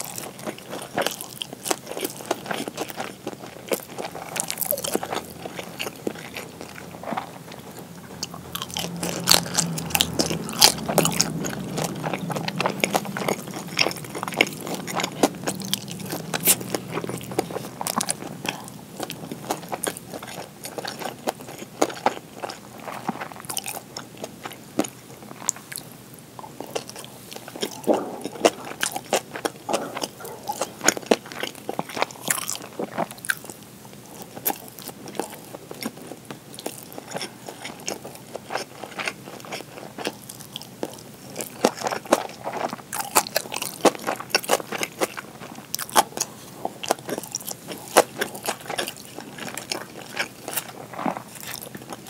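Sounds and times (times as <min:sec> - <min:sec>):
biting and chewing food: 0:00.0 - 0:52.0.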